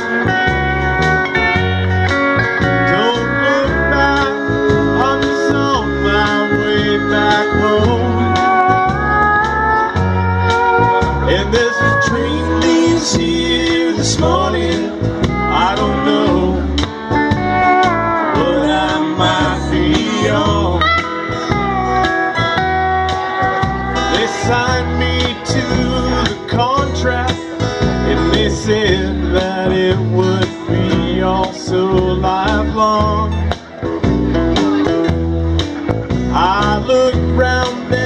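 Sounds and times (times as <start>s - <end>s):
acoustic guitar: 0.0s - 38.0s
drums with steady beat: 0.0s - 38.0s
electric bass: 0.0s - 38.0s
steel guitar sliding notes: 0.0s - 38.0s.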